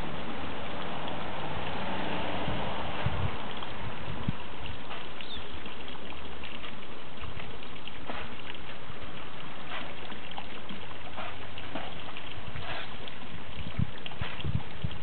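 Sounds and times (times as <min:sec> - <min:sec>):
light water splashes: 0:00.0 - 0:15.0
water running and trickling: 0:00.0 - 0:15.0.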